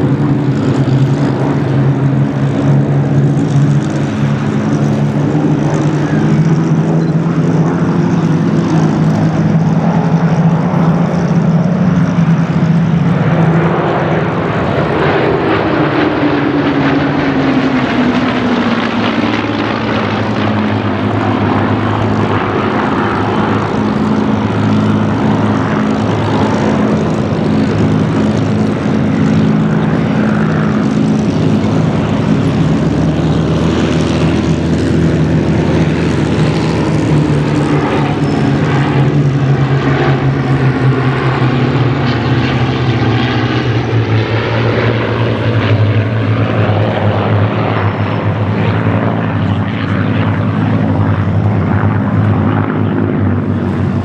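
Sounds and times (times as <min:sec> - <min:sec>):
propeller planes droning past: 0:00.0 - 0:54.0.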